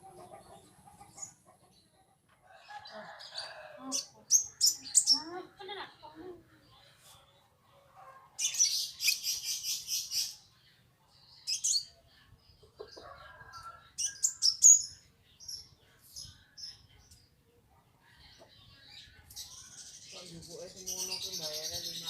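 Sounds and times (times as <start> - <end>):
caged birds chirping: 0.0 - 22.0.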